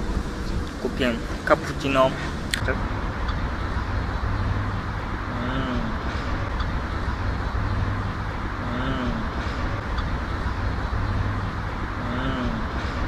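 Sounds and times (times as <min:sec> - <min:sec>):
faint hum-like tones: 0:00.0 - 0:13.0
low outdoor rumble: 0:00.0 - 0:13.0.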